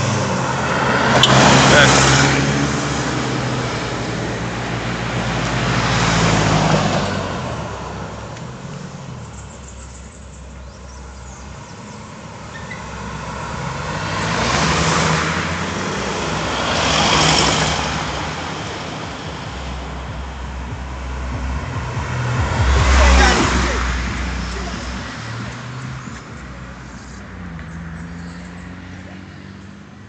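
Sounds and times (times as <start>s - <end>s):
cars driving past: 0.0s - 30.0s.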